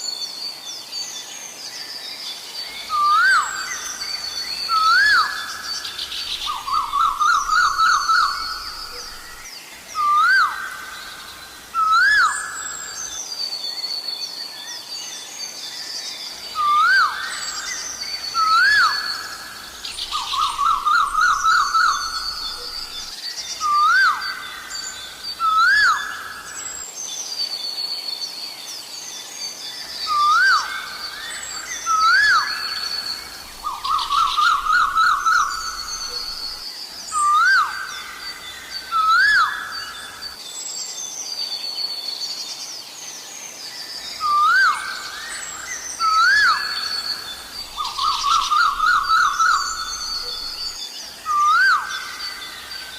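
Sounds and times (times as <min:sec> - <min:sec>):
small birds chirping: 0:01.0 - 0:13.9, 0:14.5 - 0:27.4, 0:28.5 - 0:52.9.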